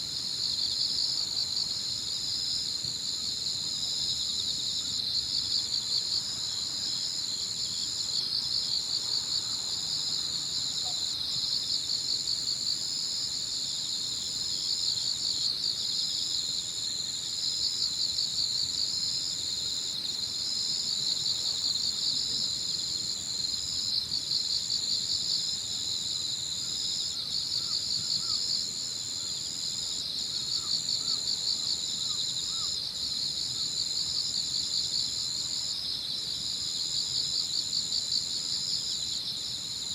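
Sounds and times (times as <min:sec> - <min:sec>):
lower pulsing insect trill: 0:00.0 - 0:39.9.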